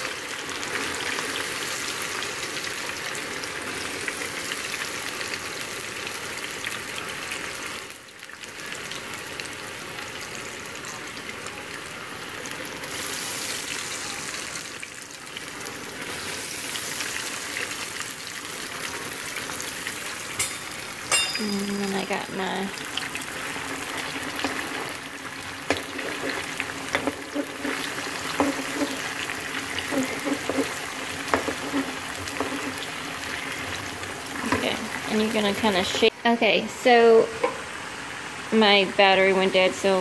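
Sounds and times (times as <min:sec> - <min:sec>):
potatoes frying in hot oil: 0:00.0 - 0:40.0.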